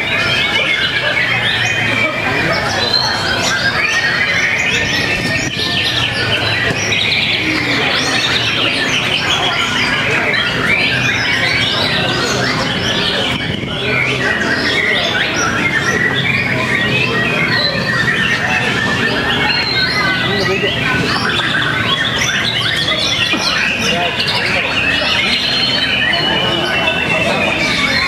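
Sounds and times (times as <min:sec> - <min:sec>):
birds singing whistles and chirps: 0:00.0 - 0:28.0.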